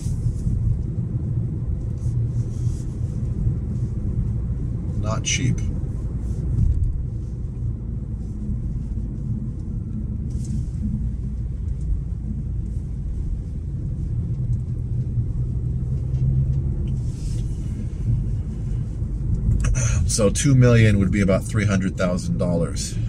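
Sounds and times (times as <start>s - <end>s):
car driving interior rumble: 0.0s - 23.0s.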